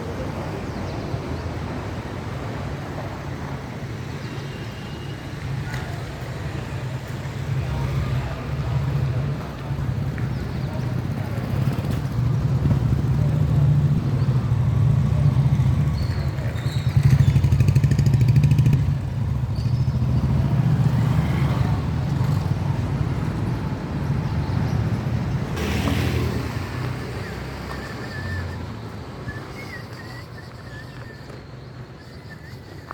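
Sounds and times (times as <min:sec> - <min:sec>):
vehicle engine rumbling: 0:05.9 - 0:32.9.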